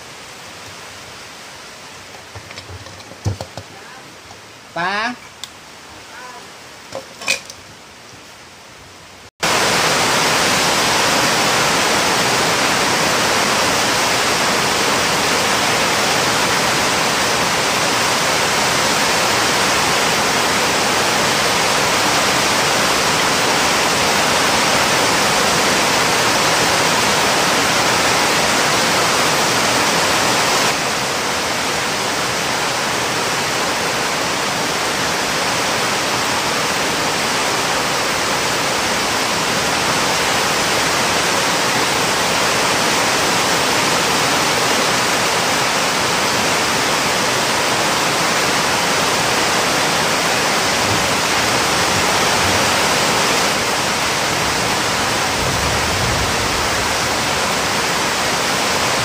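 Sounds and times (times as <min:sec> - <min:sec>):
loud static hiss: 0:00.0 - 0:59.0.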